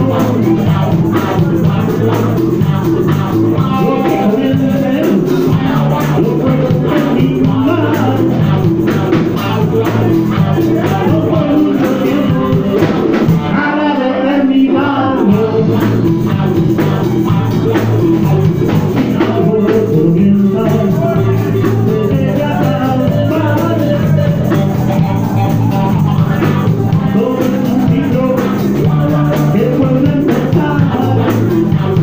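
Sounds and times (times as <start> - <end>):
drum kit: 0.0 - 32.0
electric guitar: 0.0 - 32.0
person singing: 0.0 - 32.0.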